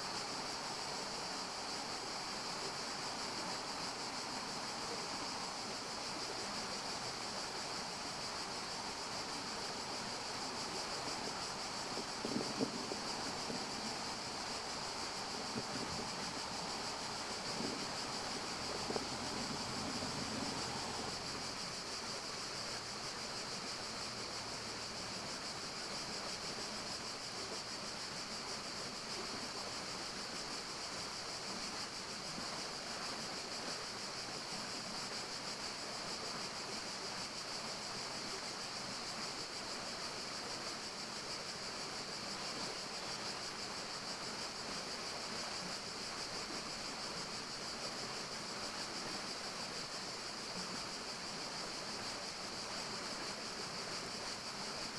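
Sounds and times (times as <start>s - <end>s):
forest ambience hiss: 0.0s - 54.9s.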